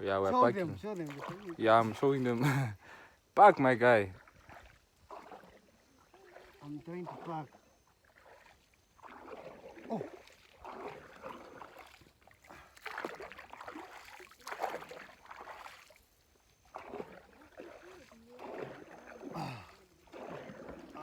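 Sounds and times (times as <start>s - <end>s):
water splashing around boat: 0.0s - 2.8s, 3.4s - 21.0s.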